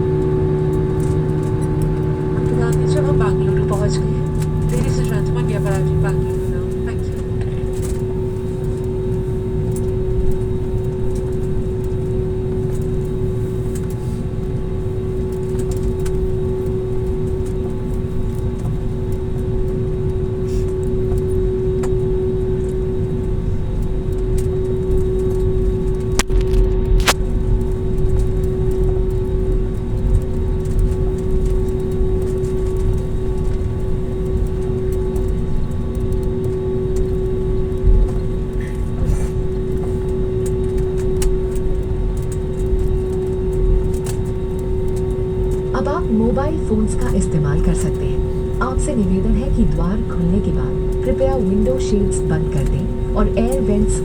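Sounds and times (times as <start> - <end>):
airliner engine hum: 0.0 - 54.0.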